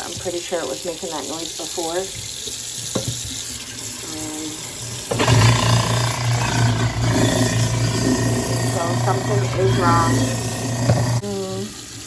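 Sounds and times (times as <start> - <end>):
garbage disposal grinding: 0.0 - 12.0
tap water running into sink: 0.0 - 12.0.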